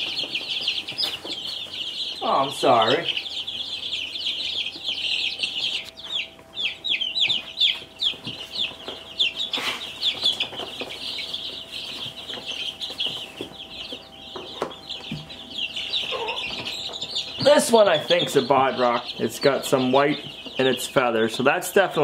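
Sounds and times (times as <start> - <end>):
baby chicks peeping: 0.0 - 22.0.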